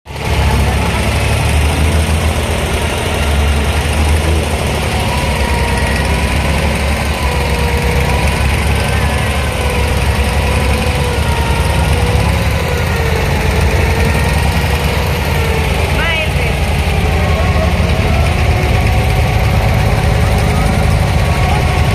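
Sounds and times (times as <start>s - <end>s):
boat diesel engine rumbling: 0.1s - 21.9s.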